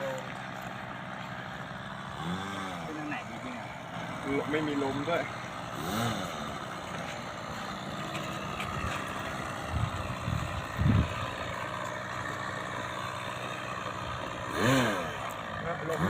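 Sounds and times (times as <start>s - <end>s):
model airplane engine: 0.0s - 16.0s.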